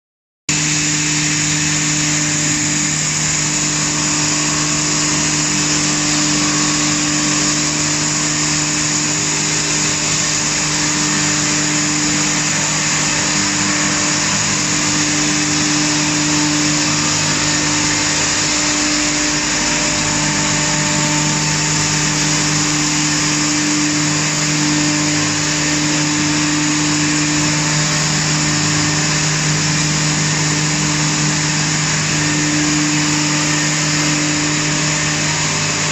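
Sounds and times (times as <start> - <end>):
hammer mill grinding hay: 0.5 - 35.9.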